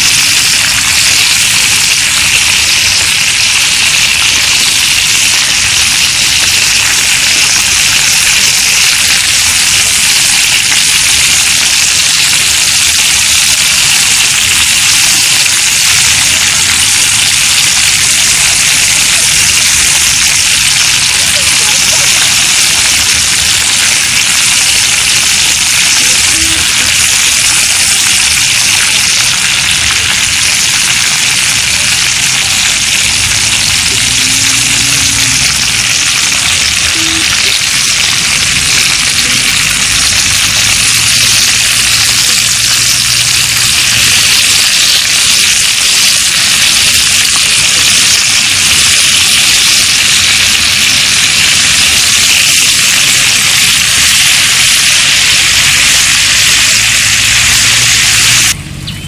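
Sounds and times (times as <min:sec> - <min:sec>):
pork frying sizzle: 0:00.0 - 0:58.6.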